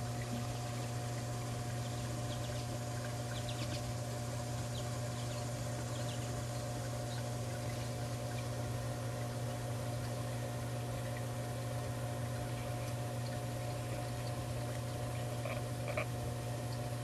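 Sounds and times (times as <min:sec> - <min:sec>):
muffled underwater pump hum: 0:00.0 - 0:17.0.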